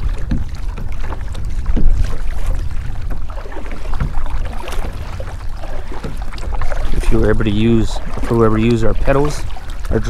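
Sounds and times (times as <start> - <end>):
kayak paddle splashing: 0.0 - 10.0
wind rumble on microphone: 0.0 - 10.0.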